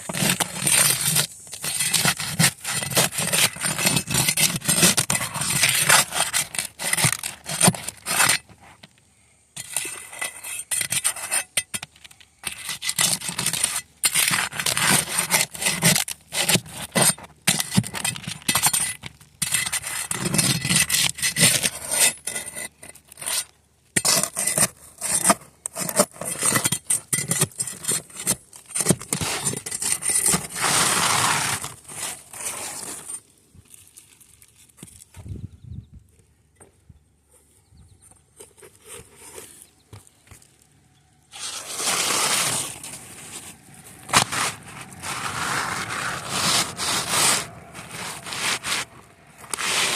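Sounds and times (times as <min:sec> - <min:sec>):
scraping on gritty surface: 0:00.0 - 0:09.0, 0:09.6 - 0:35.3, 0:38.2 - 0:49.9.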